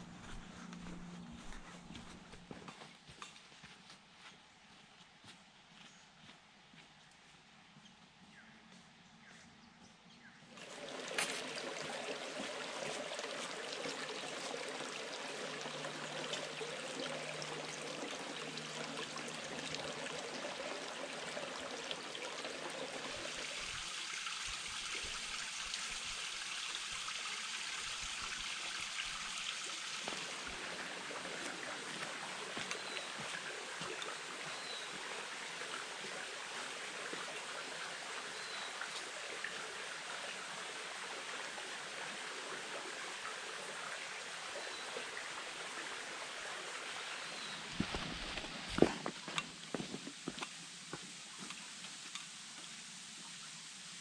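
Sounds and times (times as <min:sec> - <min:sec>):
creek water trickling over rocks: 0:10.5 - 0:54.0.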